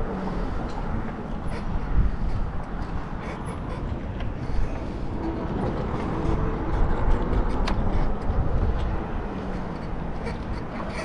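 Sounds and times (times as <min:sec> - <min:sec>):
bicycle tyres rolling on path: 0:00.0 - 0:11.0
wind on microphone: 0:00.0 - 0:11.0.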